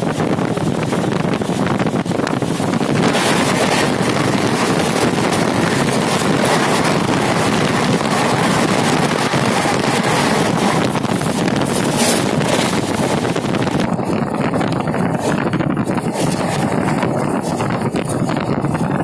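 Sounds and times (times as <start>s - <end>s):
trains rushing past: 0.0s - 18.4s
wind buffeting microphone: 0.0s - 19.0s.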